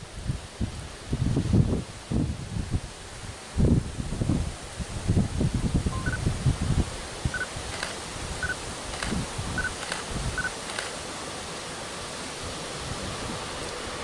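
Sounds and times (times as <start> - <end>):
wind blowing on microphone: 0.0 - 10.9, 12.3 - 14.0.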